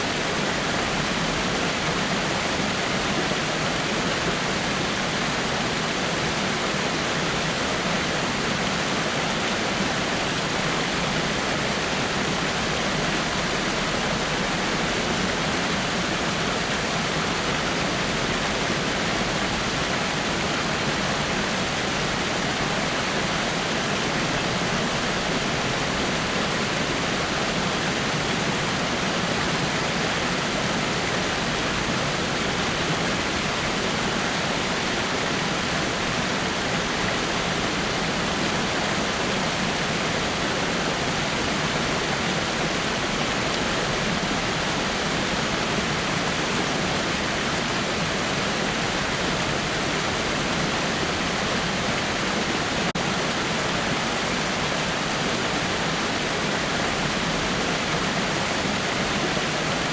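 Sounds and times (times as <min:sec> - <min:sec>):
small waterfall rushing: 0:00.0 - 0:59.9.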